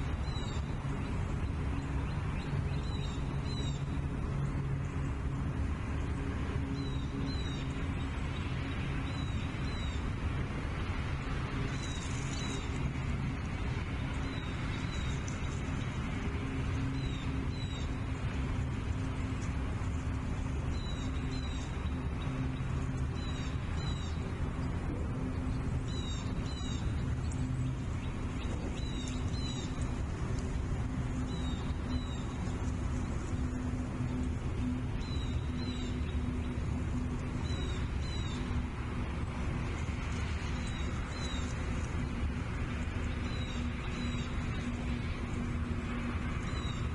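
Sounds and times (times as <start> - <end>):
low hum: 0.0 - 46.9.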